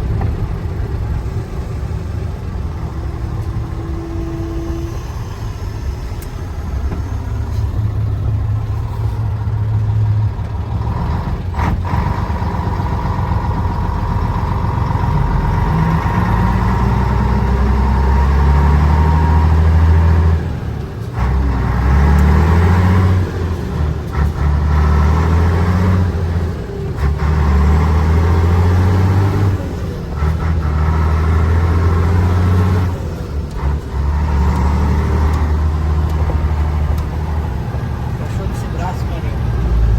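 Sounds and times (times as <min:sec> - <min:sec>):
truck diesel engine revving: 0:00.0 - 0:39.9.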